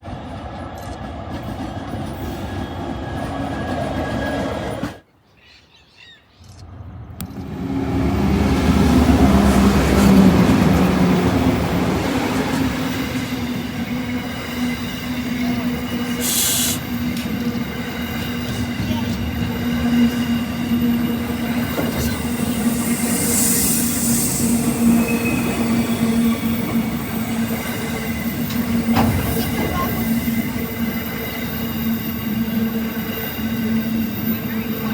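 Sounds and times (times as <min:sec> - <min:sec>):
train wheels rumbling on rail: 0:00.0 - 0:05.1, 0:06.7 - 0:34.9.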